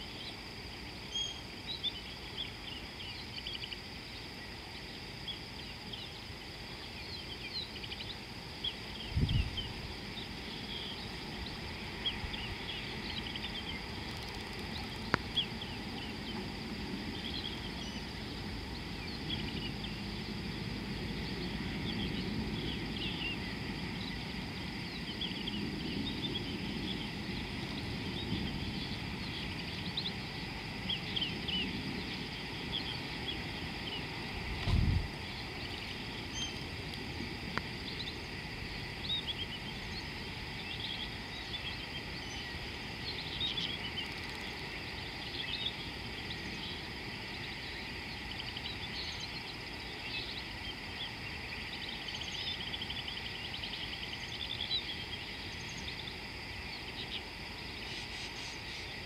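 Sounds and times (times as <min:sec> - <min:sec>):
small birds chirping: 0:00.0 - 0:59.0
steady high hiss: 0:00.0 - 0:59.0.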